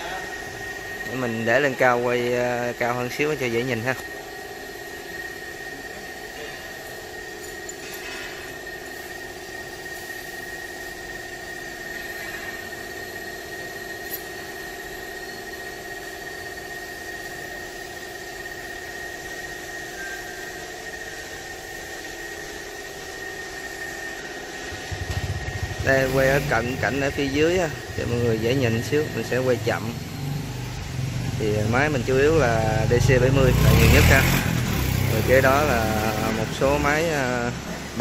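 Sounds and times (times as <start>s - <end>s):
constant high whine: 0.0s - 38.0s
mechanical hum: 0.0s - 38.0s.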